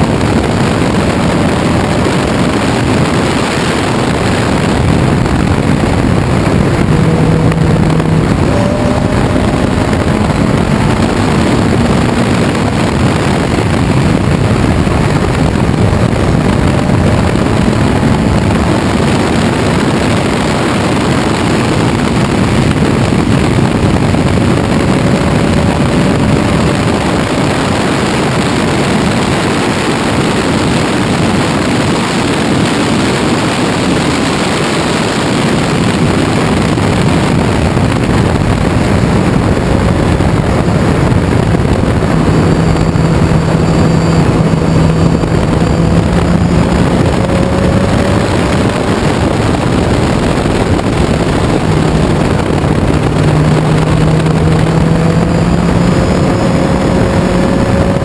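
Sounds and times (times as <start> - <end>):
racing car engine running hard: 0.0 - 58.0
wind rush: 0.0 - 58.0.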